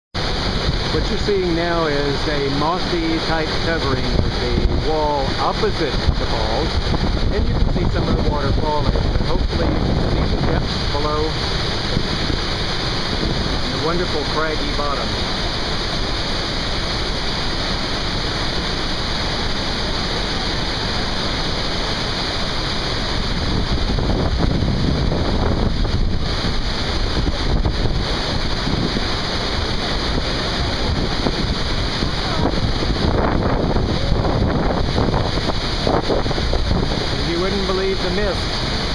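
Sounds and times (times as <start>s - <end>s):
waterfall rushing: 0.2s - 38.9s
wind noise on microphone: 0.2s - 38.9s.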